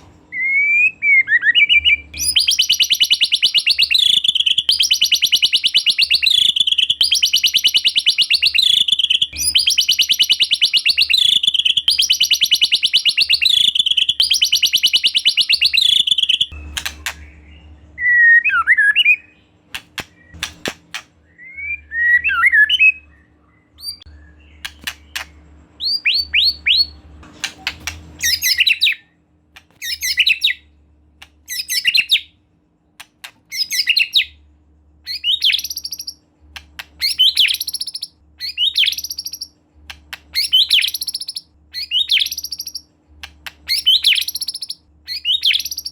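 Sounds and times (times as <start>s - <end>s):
bird whistles and trills: 0.3s - 29.1s, 29.8s - 30.7s, 31.5s - 32.3s, 33.5s - 34.4s, 35.1s - 36.2s, 36.8s - 45.9s.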